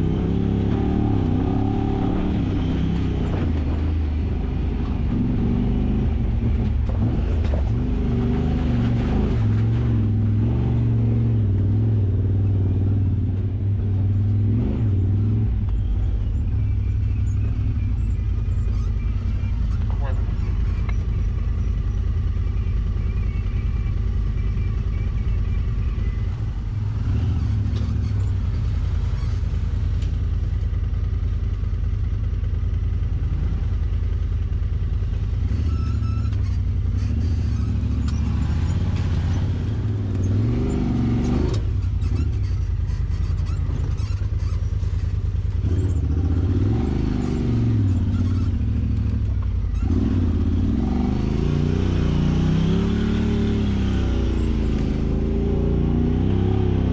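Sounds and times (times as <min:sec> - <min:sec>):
utility vehicle engine revving: 0:00.0 - 0:56.9.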